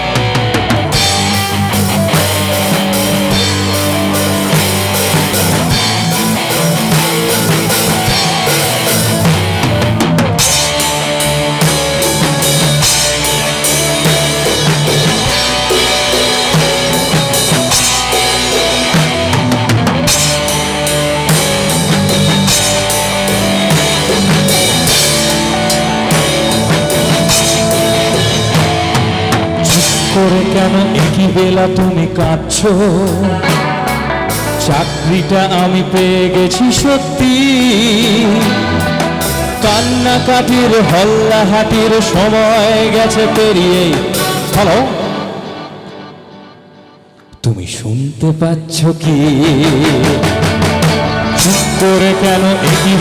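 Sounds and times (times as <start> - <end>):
drum kit beat: 0.0 - 47.2, 49.3 - 53.0
electric guitars melodic line: 0.0 - 47.4, 48.8 - 53.0
bass guitar: 0.0 - 53.0.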